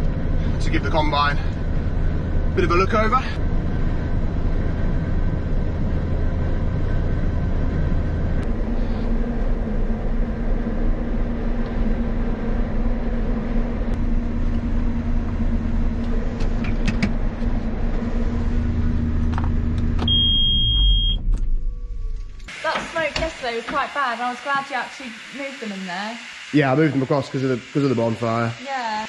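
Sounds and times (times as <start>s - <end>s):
diesel engine running steadily: 0.0s - 24.8s.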